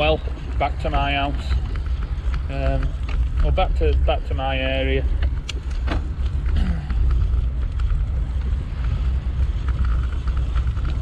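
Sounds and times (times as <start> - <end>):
bicycle tyre noise: 0.0 - 11.0
bike clicks and rattles: 0.0 - 11.0
wind buffeting microphone: 0.0 - 11.0.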